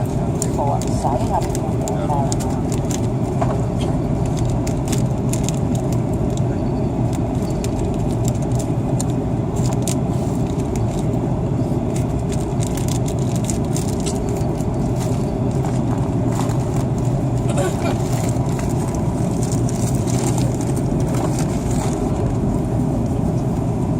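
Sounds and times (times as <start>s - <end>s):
airliner cabin roar: 0.0s - 23.9s.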